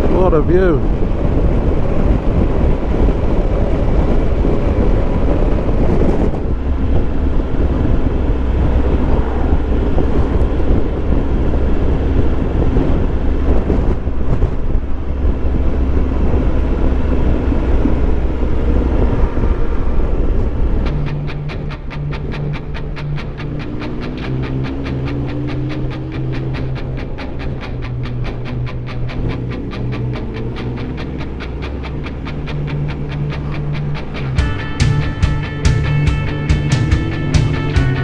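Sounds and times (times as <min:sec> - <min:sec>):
motorcycle engine drone: 0:00.0 - 0:38.0
wind rushing over microphone: 0:00.0 - 0:38.0.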